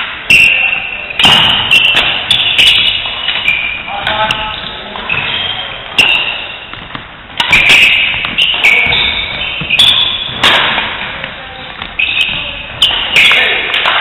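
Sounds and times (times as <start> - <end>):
shoes squeaking on court: 0.3 - 13.6
racket hitting shuttlecock: 1.2 - 4.4, 5.0 - 14.0.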